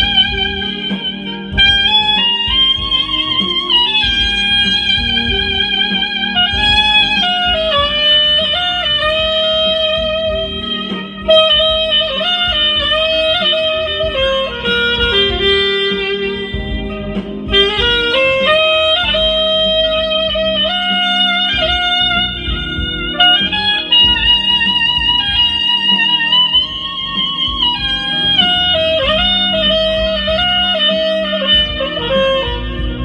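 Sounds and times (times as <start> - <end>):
soprano saxophone melody: 0.0 - 33.0.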